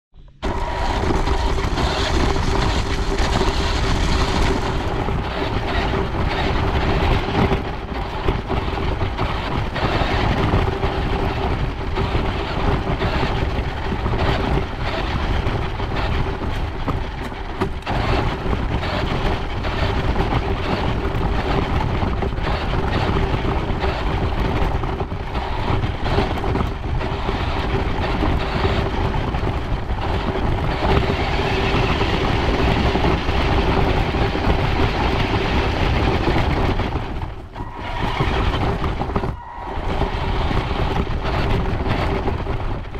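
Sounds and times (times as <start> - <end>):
knocks and rattles: 0.2 - 42.9
toy car motor whine: 0.4 - 42.6.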